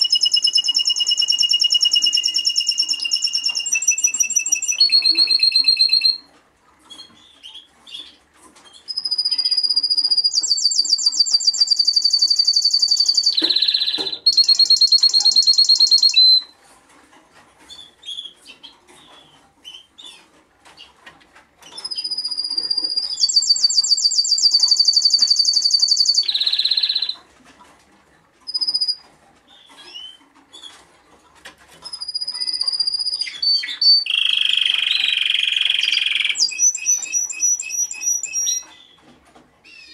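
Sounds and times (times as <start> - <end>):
canary singing trills: 0.0 - 16.6, 21.6 - 27.2, 28.5 - 30.8, 31.7 - 39.9.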